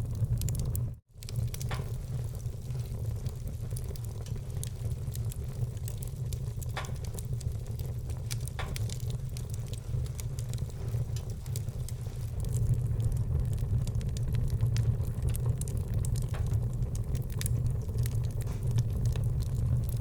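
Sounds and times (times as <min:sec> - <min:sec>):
fire pops: 0:00.0 - 0:20.0
wood fire rumble and crackling: 0:00.0 - 0:20.0.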